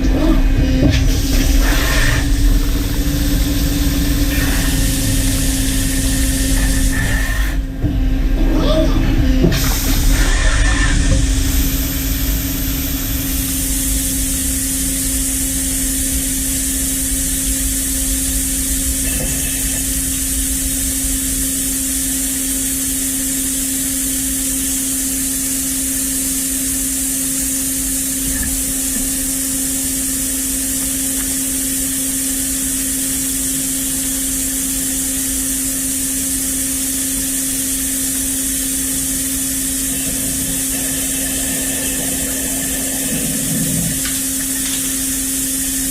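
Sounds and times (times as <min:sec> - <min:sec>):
lathe machine hum: 0:00.0 - 0:45.9.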